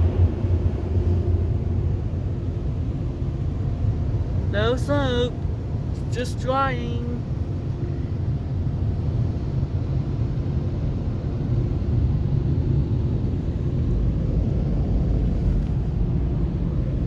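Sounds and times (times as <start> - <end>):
car wash blower dryer rumble: 0.0 - 17.0.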